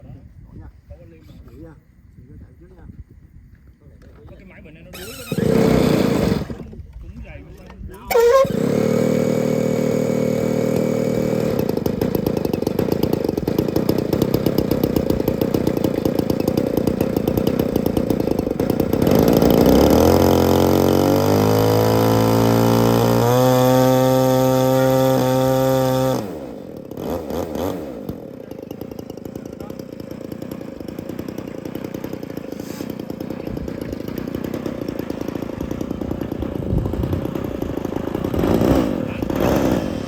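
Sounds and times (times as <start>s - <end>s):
model airplane engine revving: 4.9s - 6.8s, 7.7s - 40.0s.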